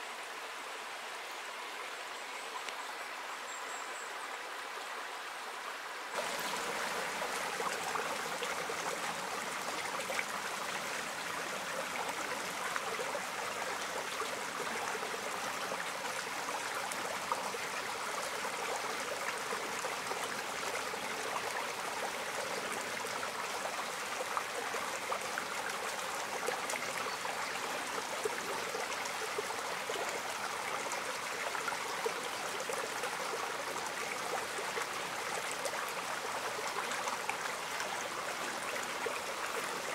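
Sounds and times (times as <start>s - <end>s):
stream trickling over stones: 1.9s - 39.9s.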